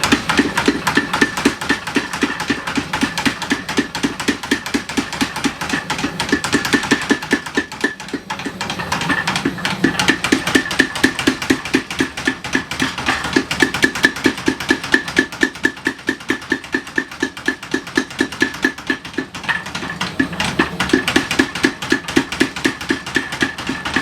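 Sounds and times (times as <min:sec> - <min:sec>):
mechanical hammer pounding hot steel: 0:00.0 - 0:24.0.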